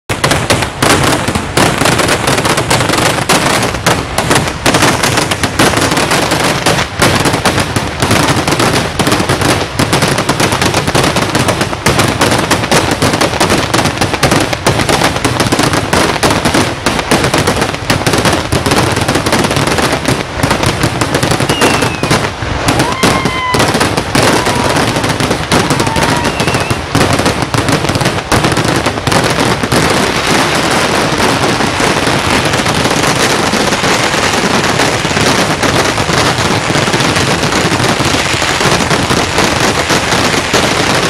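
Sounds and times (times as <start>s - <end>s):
firecracker explosions crackling: 0.1s - 41.0s.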